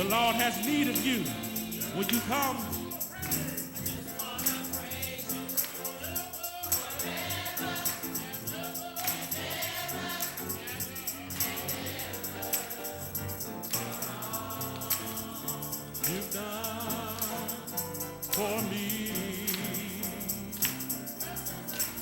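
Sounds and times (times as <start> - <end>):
gospel choir singing: 0.0 - 22.0
instrumental accompaniment: 0.0 - 22.0
percussion beat: 0.0 - 22.0.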